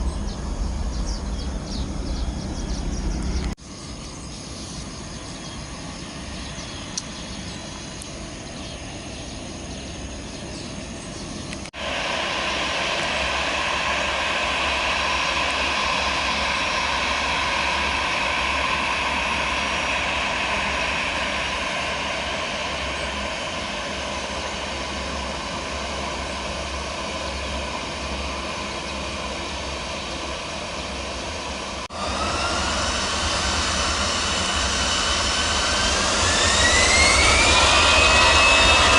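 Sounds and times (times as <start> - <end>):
jet engine roar: 0.0 - 38.9
jet engine whine rising: 0.0 - 38.9.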